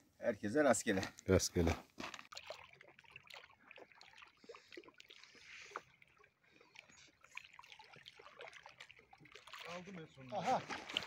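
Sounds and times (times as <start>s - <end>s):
water trickling: 2.0s - 11.0s.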